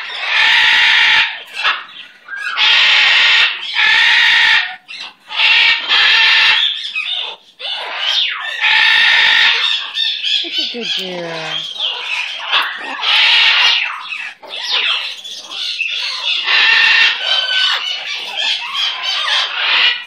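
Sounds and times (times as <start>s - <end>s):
gliding parrot calls: 0.0s - 20.0s
parrot squawking: 0.0s - 20.0s.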